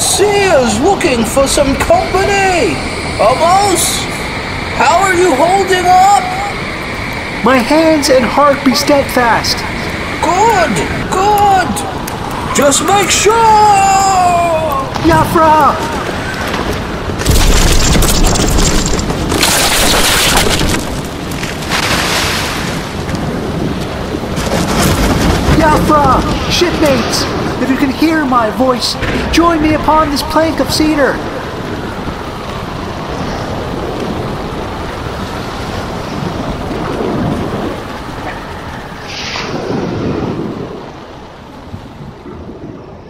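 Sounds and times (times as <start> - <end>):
waves: 0.0 - 17.2, 19.6 - 43.0
rain: 0.0 - 43.0
rough sea: 0.0 - 43.0
rushing wind: 0.0 - 43.0
thunder rumble: 0.0 - 43.0.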